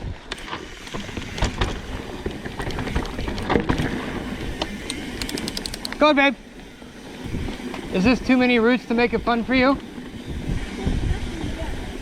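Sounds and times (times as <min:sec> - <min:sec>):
bike tyres rumbling on dirt: 0:00.0 - 0:05.7, 0:06.3 - 0:12.0
bike knocking and rattling: 0:00.1 - 0:12.0.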